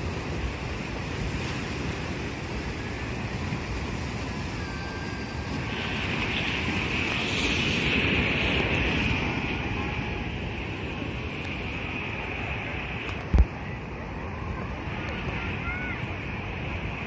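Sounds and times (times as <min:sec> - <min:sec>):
surf breaking against seawall: 0:00.0 - 0:17.0.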